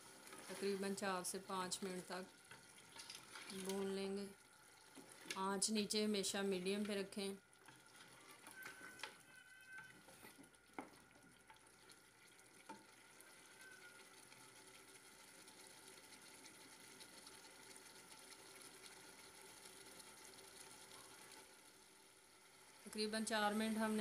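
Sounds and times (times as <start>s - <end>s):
faint sizzle of food frying: 0.0s - 24.0s.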